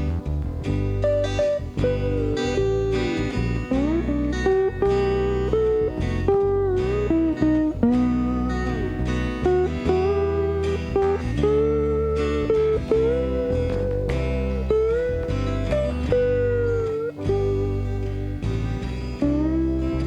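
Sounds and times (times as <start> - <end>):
lead guitar with bent notes: 0.0 - 20.0
steady bass: 0.0 - 20.0
strummed guitar: 0.0 - 20.0.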